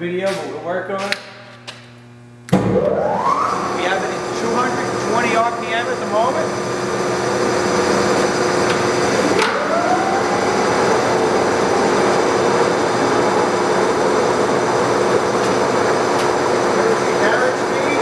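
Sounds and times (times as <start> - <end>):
rising whine: 2.6 - 18.0
lathe motor hum: 2.8 - 18.0.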